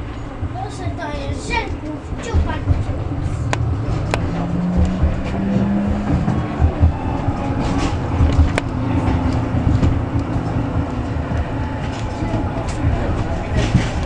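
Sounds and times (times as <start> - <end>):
steady hum: 0.0 - 14.0
tram rumbling along track: 0.0 - 14.0
wheel thumps: 1.2 - 14.0.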